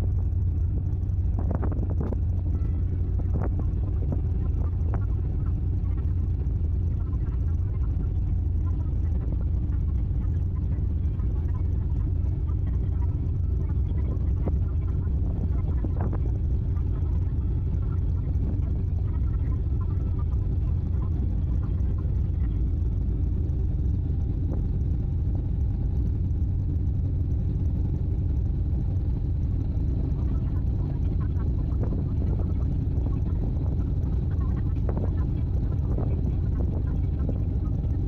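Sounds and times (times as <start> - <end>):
faint voices: 0.0 - 26.4, 28.3 - 38.0
ship engines rumbling: 0.0 - 38.0.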